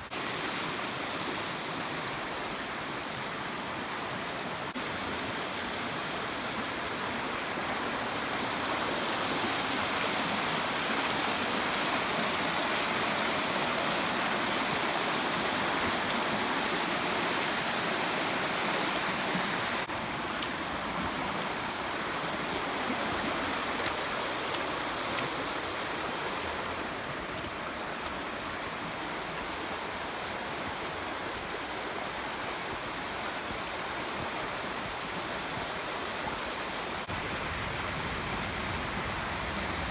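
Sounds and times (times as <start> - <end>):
stream water flowing over rocks: 0.0 - 39.9.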